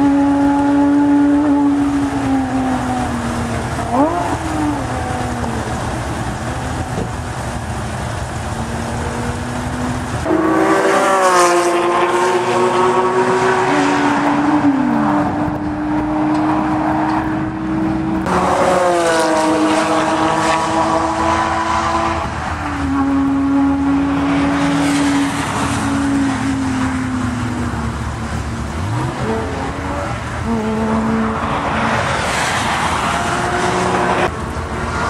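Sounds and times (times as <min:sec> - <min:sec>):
car engine high-revving: 0:00.0 - 0:35.0.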